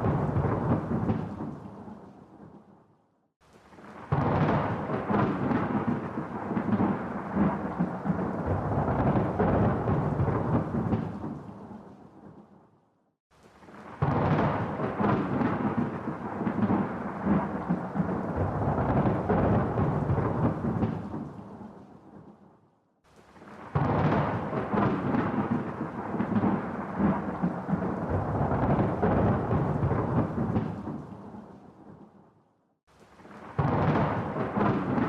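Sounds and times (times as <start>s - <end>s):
rolling thunder: 0.0s - 2.5s, 3.7s - 12.4s, 13.6s - 22.2s, 23.4s - 32.0s, 33.2s - 35.0s.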